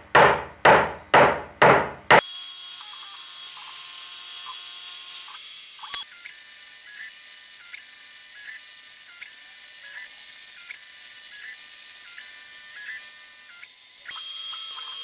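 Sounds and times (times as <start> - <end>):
router spindle high whine: 2.3 - 15.0.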